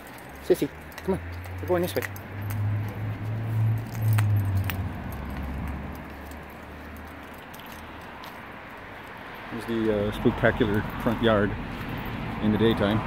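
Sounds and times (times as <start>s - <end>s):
leash and collar jingling: 0.0s - 13.0s.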